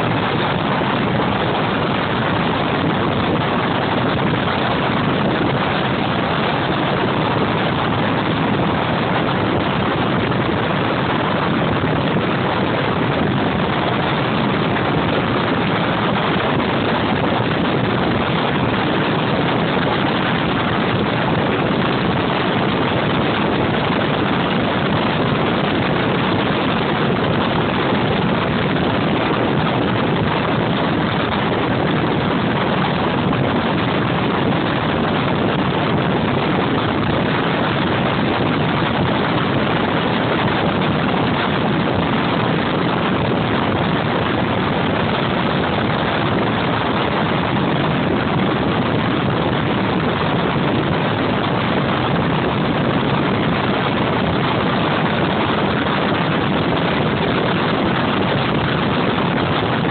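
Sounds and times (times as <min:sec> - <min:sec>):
airflow rushing: 0:00.0 - 0:59.9
model jet turbine: 0:00.0 - 0:59.9.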